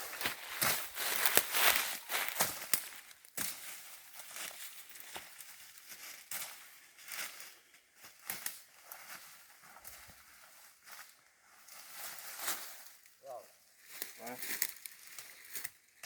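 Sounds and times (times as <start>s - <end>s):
dry leaves and twigs crunching: 0.0s - 16.0s.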